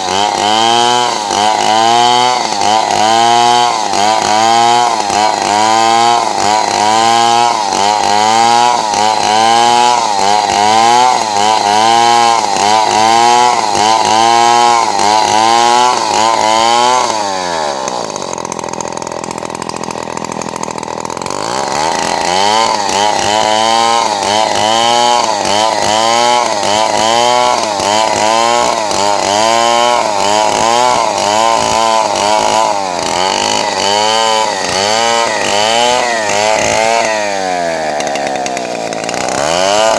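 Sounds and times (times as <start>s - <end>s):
chainsaw cutting boards: 0.0s - 39.9s.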